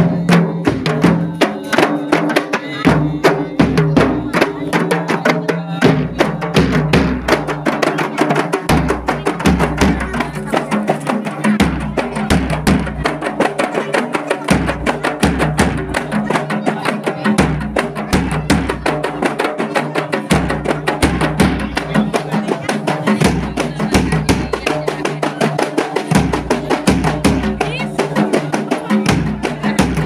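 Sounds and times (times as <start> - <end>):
frame drums fast rhythm: 0.0 - 30.0
men singing: 0.0 - 30.0.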